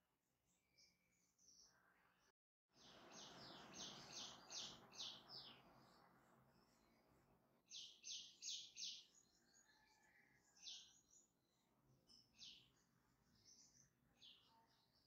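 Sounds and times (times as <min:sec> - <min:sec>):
small bird chirping: 0:02.8 - 0:15.0.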